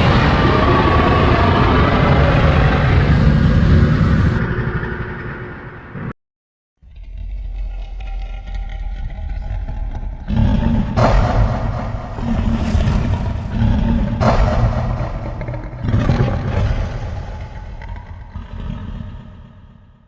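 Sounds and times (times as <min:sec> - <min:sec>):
low rumble with rising tone: 0:00.0 - 0:06.2, 0:06.8 - 0:18.4.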